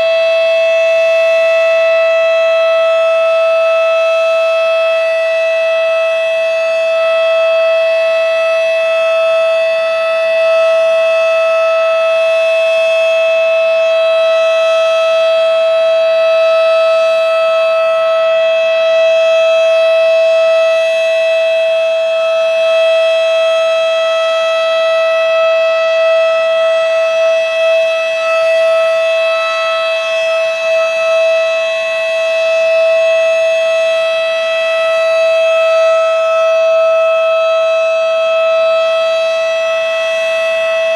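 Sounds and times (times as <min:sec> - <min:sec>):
siren steady tone: 0:00.0 - 0:40.9.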